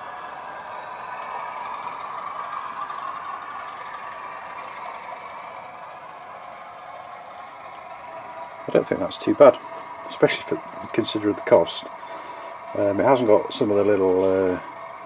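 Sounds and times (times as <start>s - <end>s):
model locomotive diesel engine sound: 0.0s - 15.0s.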